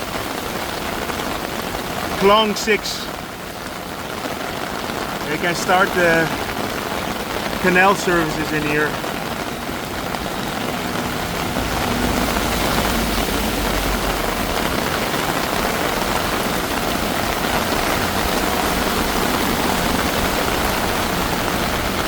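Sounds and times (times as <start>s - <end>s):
heavy rain on street: 0.0s - 22.0s.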